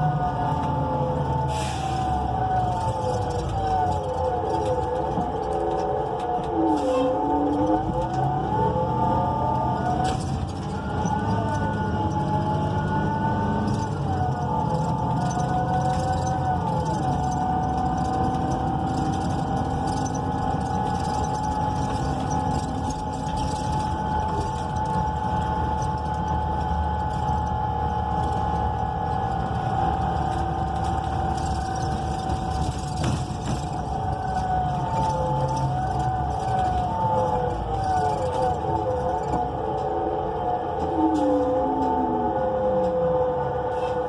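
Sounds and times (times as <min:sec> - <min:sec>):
bus engine rumble: 0:00.0 - 0:44.0
drivetrain whine: 0:00.0 - 0:44.0.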